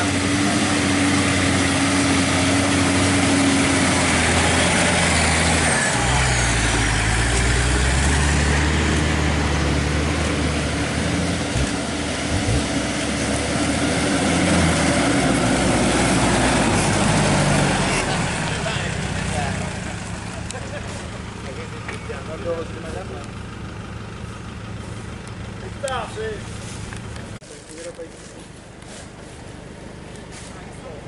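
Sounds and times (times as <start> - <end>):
road and wind noise: 0.0 - 31.0
vehicle engine while driving: 0.0 - 31.0.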